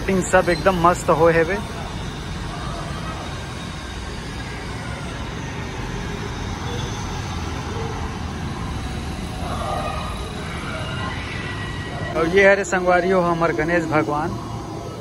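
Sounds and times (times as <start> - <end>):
faint voices: 0.0 - 15.0
road traffic rumble: 0.0 - 15.0.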